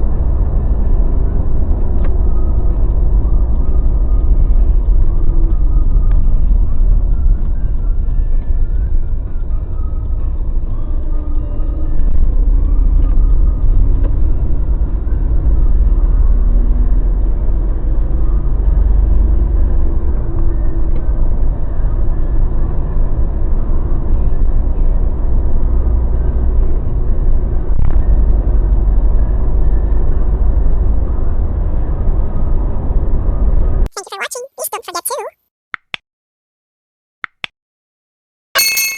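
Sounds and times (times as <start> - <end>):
road noise: 0.0 - 33.8
vehicle engine rumble: 0.0 - 33.9.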